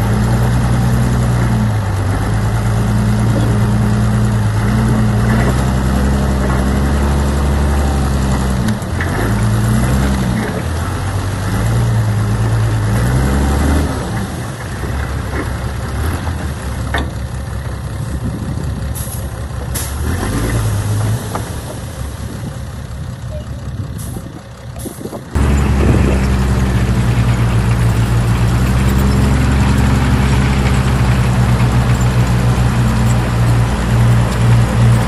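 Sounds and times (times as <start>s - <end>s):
diesel engine of heavy machinery: 0.0s - 35.0s.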